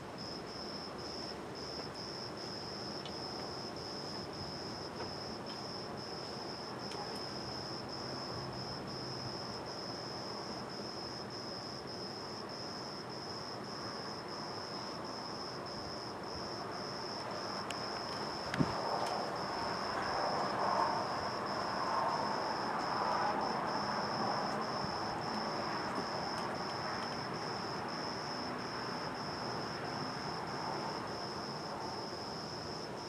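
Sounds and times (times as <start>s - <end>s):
background hiss: 0.0s - 33.0s
cricket trilling: 0.2s - 33.0s.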